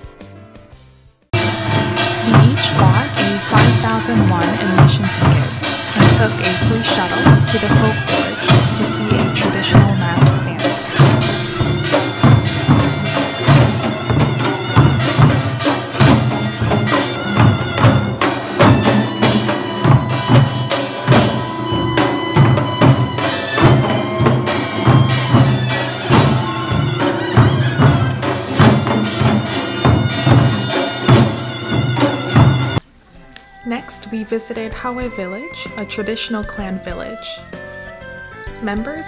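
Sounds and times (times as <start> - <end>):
barrel drums beating: 1.3 - 32.8
wind instrument melody: 1.4 - 39.0.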